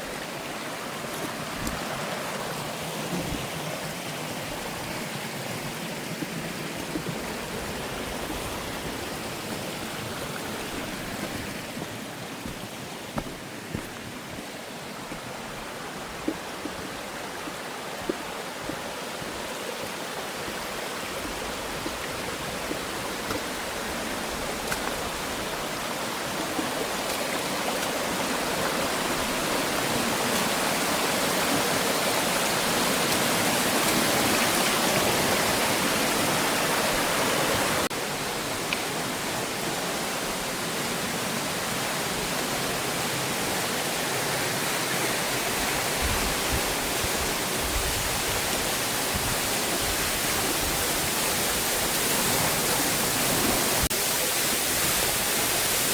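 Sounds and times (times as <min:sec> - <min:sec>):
waterfall rushing water: 0:00.0 - 0:55.9.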